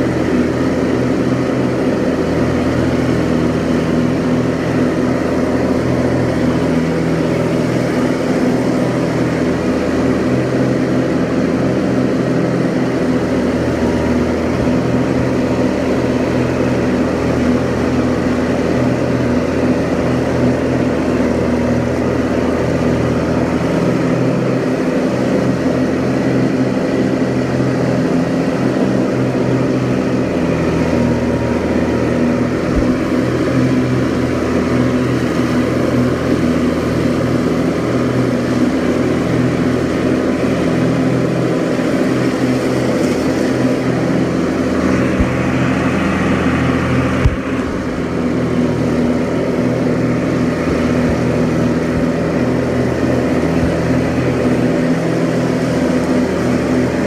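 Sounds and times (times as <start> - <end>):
diesel garden tractor running: 0.0 - 57.0
mower deck cutting grass: 0.0 - 57.0.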